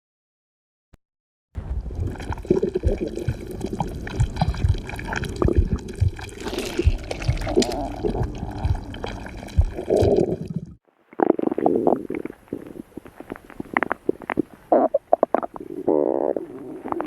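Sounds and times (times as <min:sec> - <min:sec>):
stomach growling and gurgling: 0:01.6 - 0:17.0.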